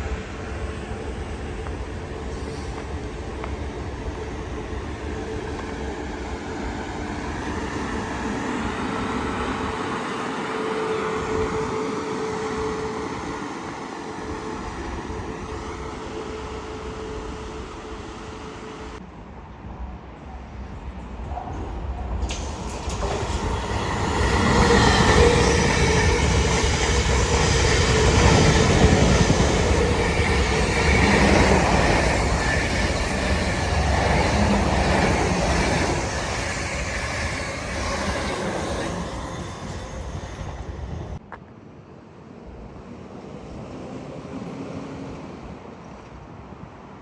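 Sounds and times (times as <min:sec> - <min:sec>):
train passing on rails: 0:00.0 - 0:47.0.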